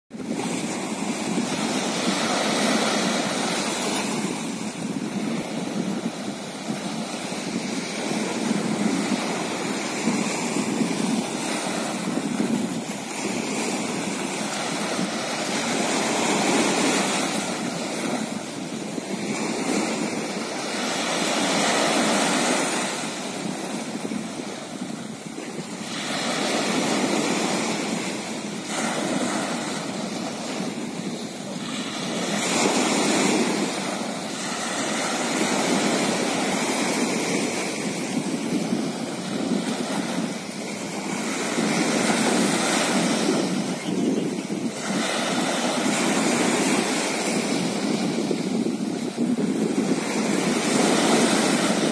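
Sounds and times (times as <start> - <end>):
small waves washing onto shore: 0.1 - 51.9.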